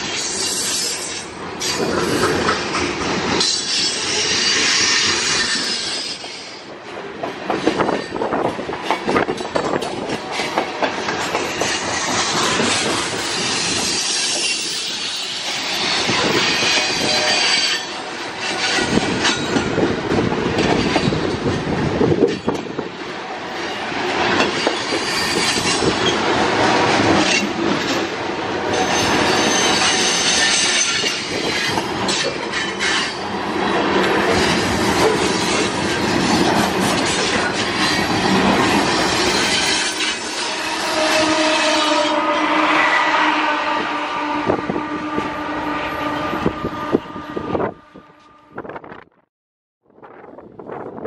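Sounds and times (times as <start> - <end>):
train wheels clacking over rail joints: 0.0 - 22.9, 23.5 - 42.0.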